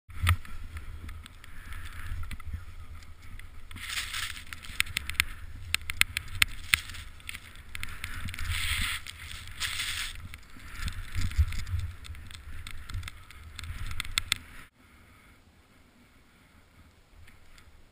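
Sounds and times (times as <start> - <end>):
wind rumble on microphone: 0.1 - 14.7
sharp clicks: 0.2 - 14.6.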